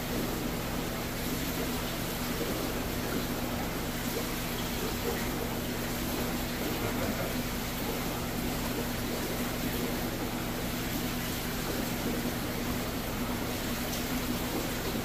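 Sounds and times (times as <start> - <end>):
bubbling water from aquarium pumps: 0.0 - 15.0.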